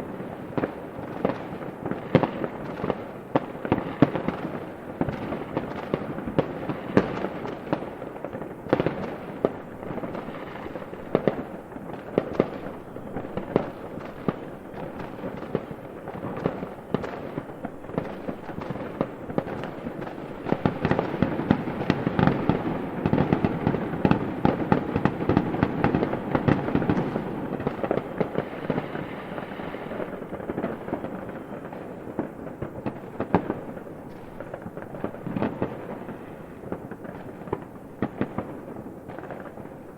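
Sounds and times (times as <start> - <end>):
fireworks bangs and crackles: 0.0 - 39.9
fireworks rumble: 0.0 - 39.9.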